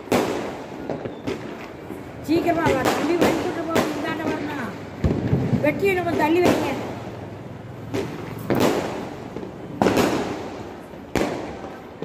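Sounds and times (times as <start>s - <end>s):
firecrackers bursting: 0.0s - 12.0s.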